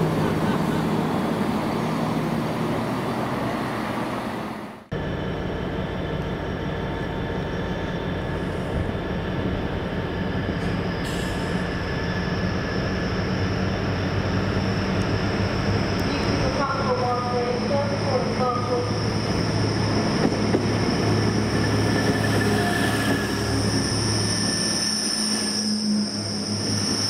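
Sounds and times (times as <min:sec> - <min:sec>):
train rumbling with low hum: 0:00.0 - 0:27.0
train running: 0:00.0 - 0:27.0
high-pitched whine: 0:05.0 - 0:27.0.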